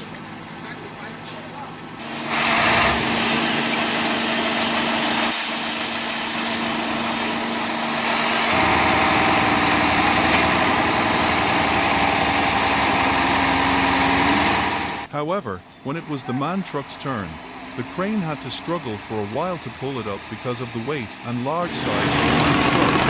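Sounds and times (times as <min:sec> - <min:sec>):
truck diesel engine running: 0:00.0 - 0:15.1, 0:16.0 - 0:23.0.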